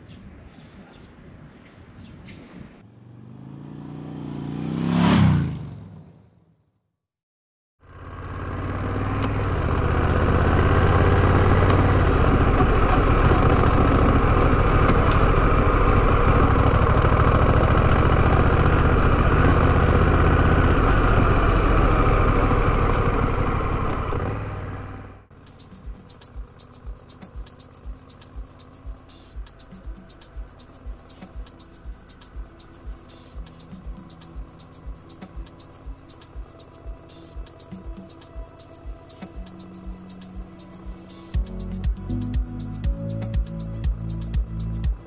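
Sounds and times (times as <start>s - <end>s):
vehicle passing by: 2.5s - 6.6s, 7.9s - 44.8s
motorcycle engine running: 2.9s - 6.7s, 7.8s - 45.0s.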